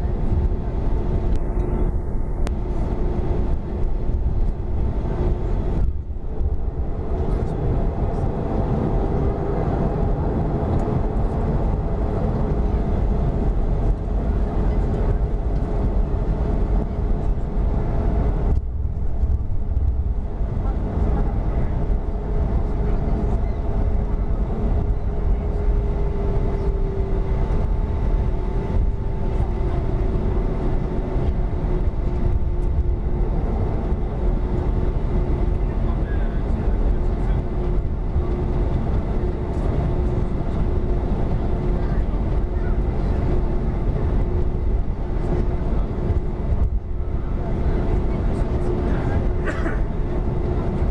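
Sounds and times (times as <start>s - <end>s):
jet engine cabin rumble: 0.0s - 50.9s.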